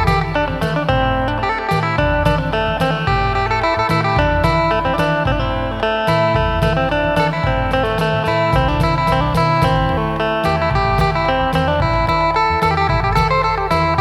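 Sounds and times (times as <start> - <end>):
amplified lute picking melody: 0.0 - 14.0.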